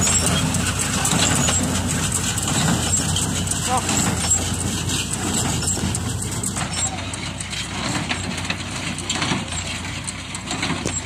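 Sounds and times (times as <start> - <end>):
baler mechanical clattering: 0.0 - 11.0
tractor engine running: 0.0 - 11.0.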